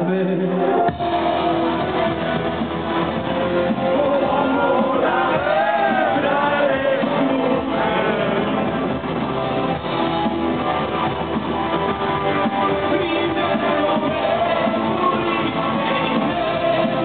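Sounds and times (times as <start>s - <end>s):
electric guitar: 0.0s - 17.0s
muffled live rock band: 0.0s - 17.0s.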